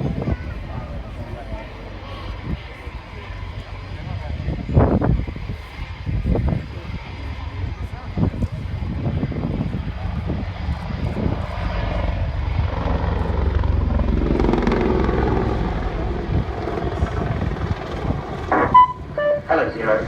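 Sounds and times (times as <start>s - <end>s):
helicopter rotor rumble: 0.0s - 20.0s
turbine engine whine: 0.0s - 20.0s.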